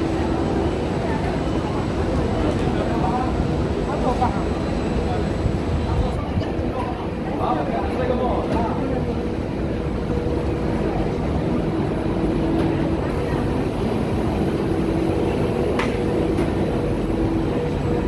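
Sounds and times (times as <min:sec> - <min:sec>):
electric trains humming: 0:00.0 - 0:18.0.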